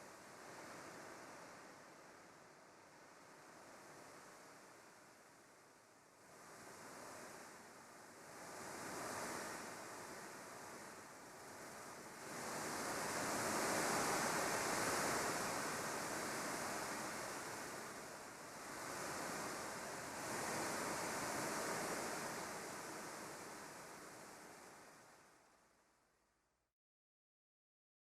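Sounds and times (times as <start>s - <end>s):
sea waves washing in: 0.1s - 25.4s.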